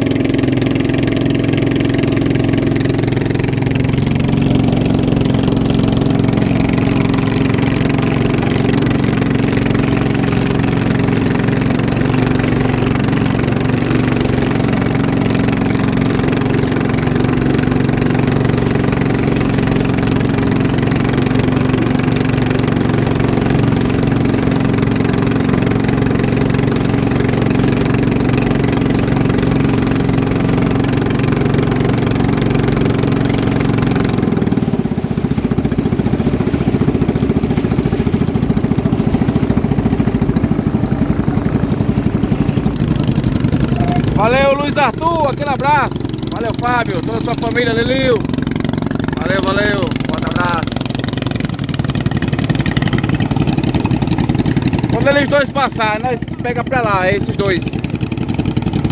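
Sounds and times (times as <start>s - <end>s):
boat engine running loudly: 0.0s - 58.9s.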